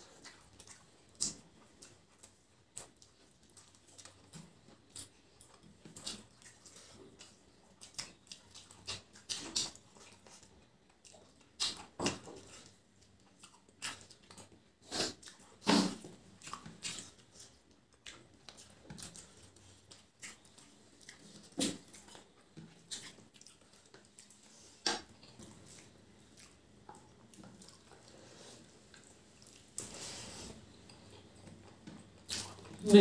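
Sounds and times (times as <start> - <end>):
wet chewing and lip-smacking: 0.0 - 32.8.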